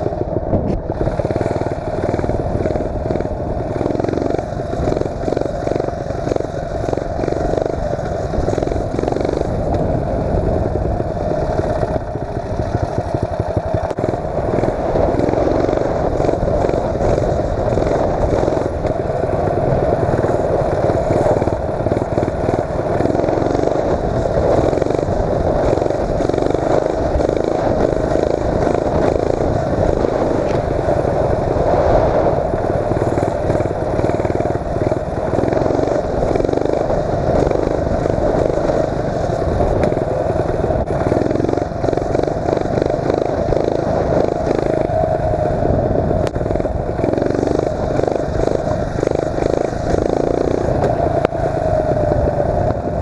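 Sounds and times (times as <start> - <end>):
mini bike engine revving: 0.0 - 53.0.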